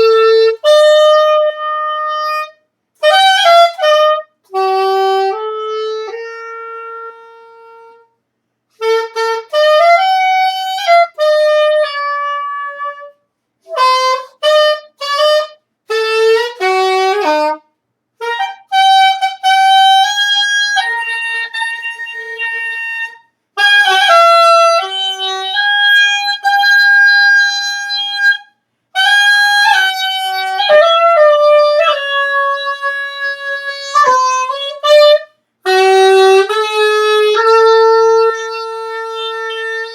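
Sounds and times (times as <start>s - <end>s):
solo woodwind melody: 0.0s - 39.9s.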